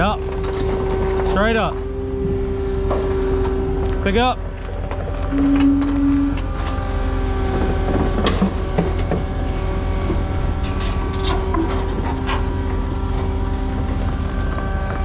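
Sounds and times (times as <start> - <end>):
diesel engine running: 0.0 - 15.0
metal clanks and rattles: 0.0 - 15.0.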